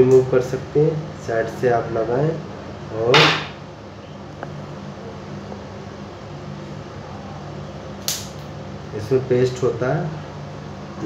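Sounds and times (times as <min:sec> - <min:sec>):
room noise hum and hiss: 0:00.0 - 0:11.0.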